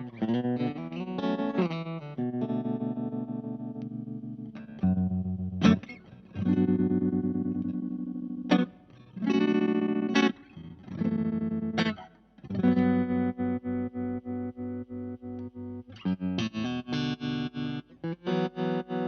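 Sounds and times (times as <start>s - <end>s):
electric guitar chords with tremolo: 0.0s - 19.0s.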